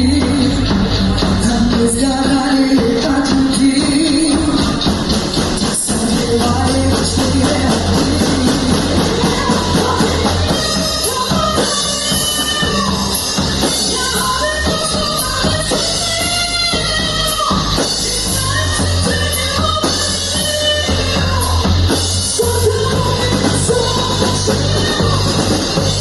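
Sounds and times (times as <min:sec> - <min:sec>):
rock band music: 0:00.0 - 0:26.0.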